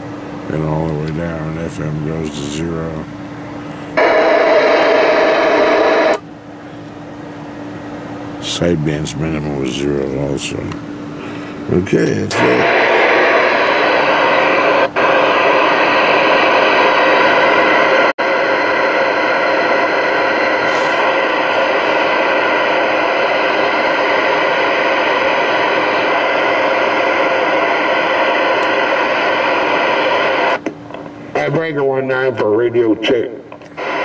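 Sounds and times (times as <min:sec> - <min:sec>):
radio static hiss: 0:00.5 - 0:03.1, 0:03.7 - 0:06.2, 0:08.4 - 0:30.7, 0:31.3 - 0:34.0.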